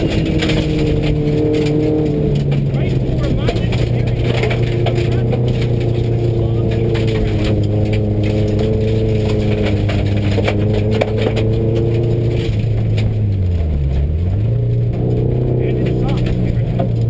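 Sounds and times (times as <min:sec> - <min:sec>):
car engine running under load: 0:00.0 - 0:17.0
sharp clicks and rattles: 0:00.0 - 0:17.0.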